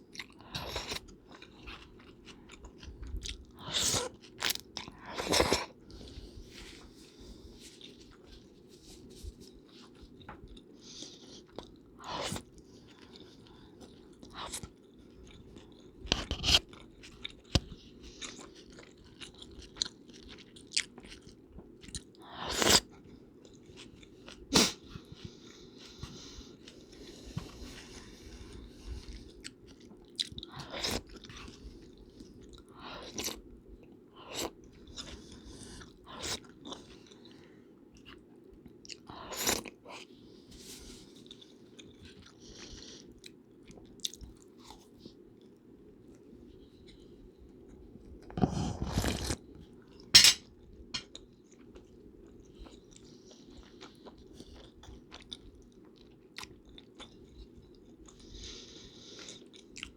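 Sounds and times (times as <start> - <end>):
wet chewing and mouth sounds: 0.0 - 40.2, 41.0 - 59.9.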